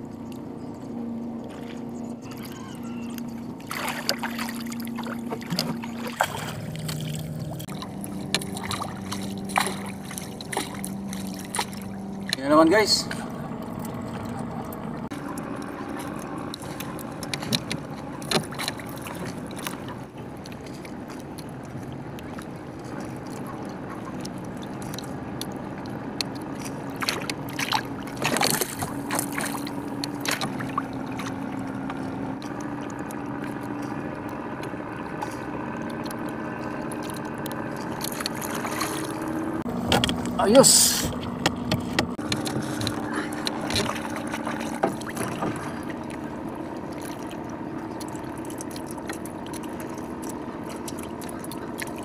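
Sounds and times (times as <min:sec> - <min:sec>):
boat engine humming: 0:00.0 - 0:52.0.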